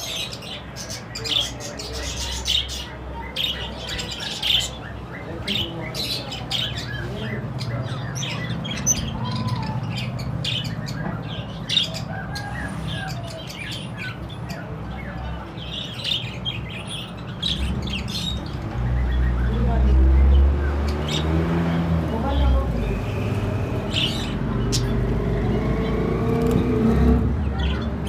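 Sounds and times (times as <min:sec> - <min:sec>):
budgerigars chirping and squawking: 0:00.0 - 0:28.0.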